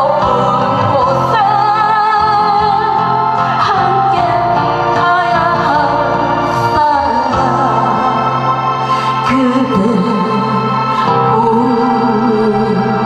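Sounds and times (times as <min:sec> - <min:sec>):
backing track: 0:00.0 - 0:13.0
woman singing a ballad: 0:00.0 - 0:13.0.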